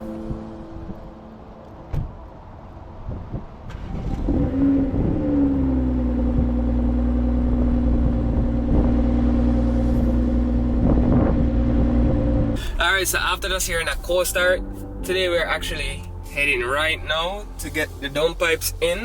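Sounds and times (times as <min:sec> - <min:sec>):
car engine cold start and idle: 0:03.0 - 0:19.0.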